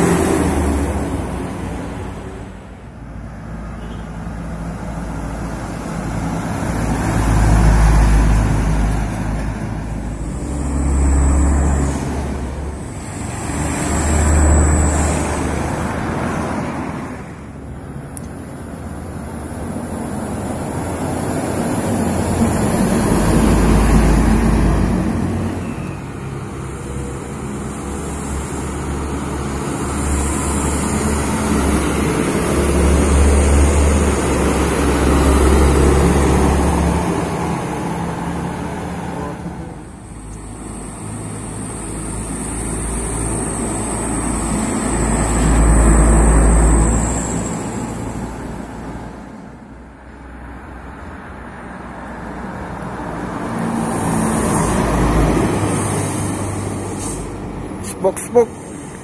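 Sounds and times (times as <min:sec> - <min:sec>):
trucks passing on a road: 0:00.0 - 0:59.0.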